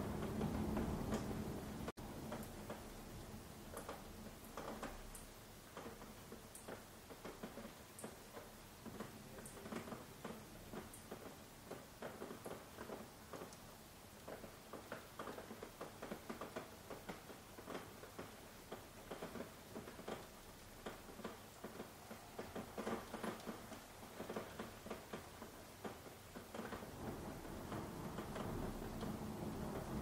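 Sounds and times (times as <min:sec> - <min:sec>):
faint rain hiss: 0:00.0 - 0:30.0
raindrops pattering: 0:00.0 - 0:30.0.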